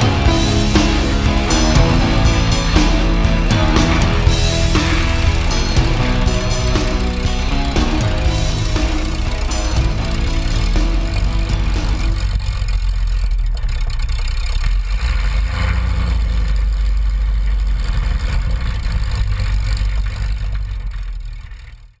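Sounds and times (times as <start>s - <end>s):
propeller engine rumbling: 0.0s - 21.8s.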